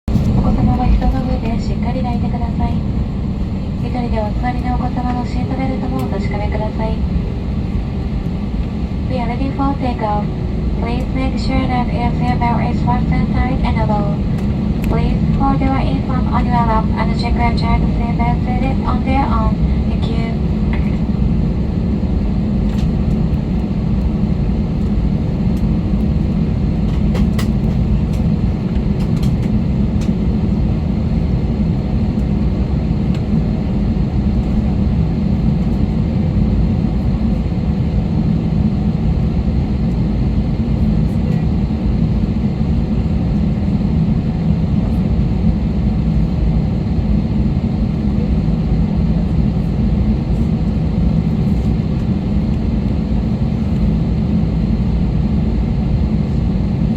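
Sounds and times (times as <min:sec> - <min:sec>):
airliner engines rumbling: 0:00.0 - 0:56.9.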